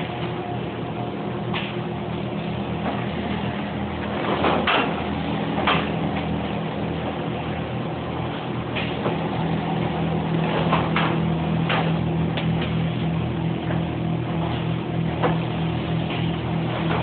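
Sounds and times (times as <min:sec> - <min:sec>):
industrial machine humming: 0:00.0 - 0:17.0.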